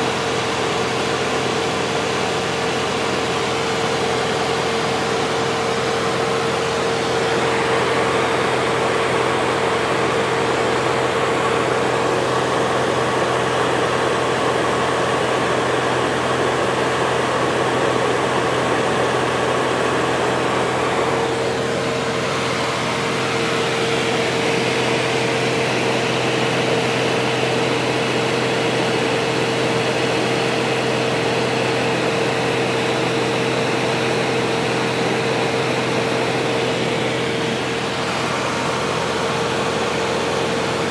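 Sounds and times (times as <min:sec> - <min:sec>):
propeller plane engine drone in cabin: 0:00.0 - 0:40.9.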